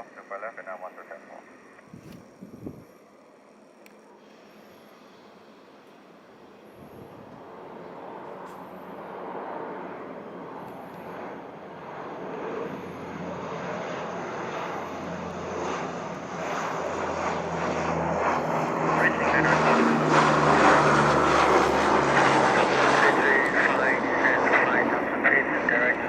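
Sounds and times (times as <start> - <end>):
low propeller hum: 0.0 - 26.0
turboprop aircraft engines droning: 0.0 - 26.0.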